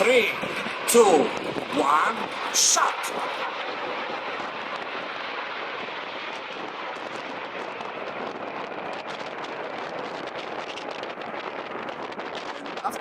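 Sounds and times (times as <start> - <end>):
rushing jet noise: 0.0 - 13.0.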